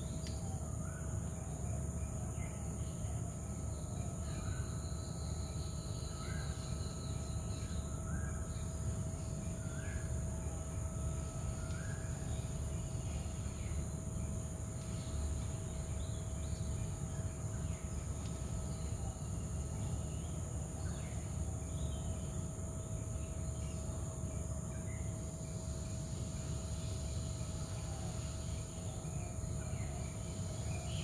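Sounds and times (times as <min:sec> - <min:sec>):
insects trilling: 0:00.0 - 0:31.0
mid-pitched hum: 0:00.0 - 0:31.0.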